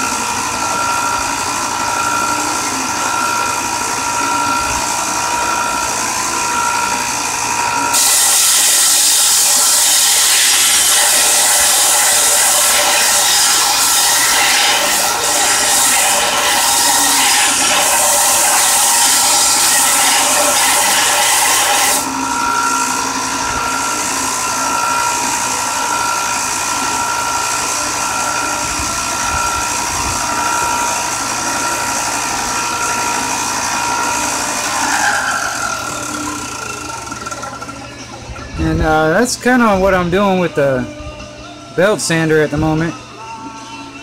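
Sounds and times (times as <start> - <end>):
belt sander grinding steel: 0.0 - 40.9
belt sander whining: 0.0 - 44.0.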